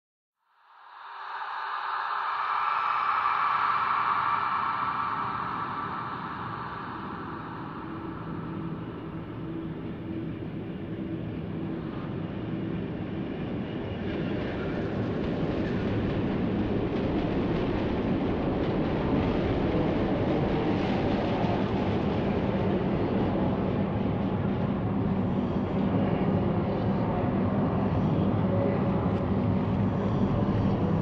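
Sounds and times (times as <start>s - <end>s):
low train-like rumble: 0.7s - 31.0s.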